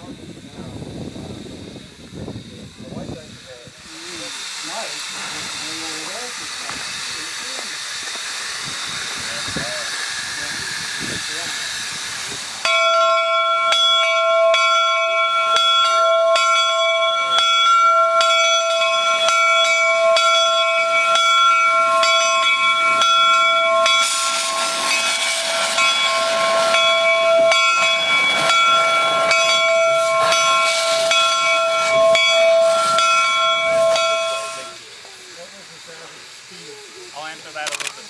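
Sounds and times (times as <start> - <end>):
hiss of escaping steam: 0.0 - 38.0
steam locomotive bell ringing: 3.2 - 37.6.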